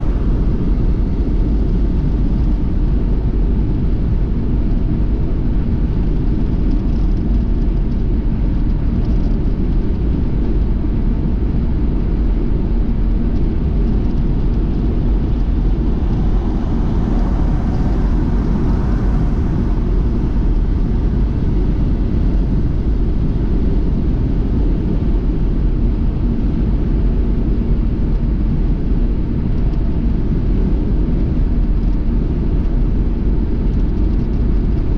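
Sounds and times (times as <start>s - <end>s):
road noise: 0.0s - 34.8s
vehicle engine rumble: 0.0s - 34.9s.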